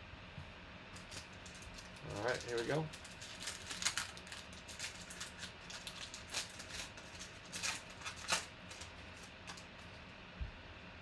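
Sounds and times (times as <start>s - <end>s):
foil wrapper crinkling and tearing: 1.0s - 10.1s.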